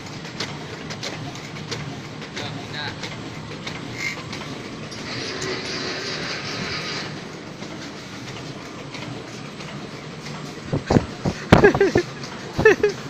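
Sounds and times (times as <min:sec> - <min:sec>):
paper cutting machine clatter: 0:00.0 - 0:13.0.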